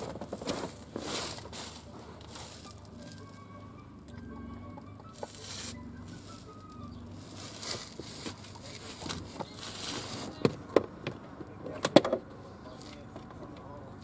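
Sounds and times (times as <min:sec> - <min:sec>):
rustling and handling noises: 0:00.0 - 0:12.0.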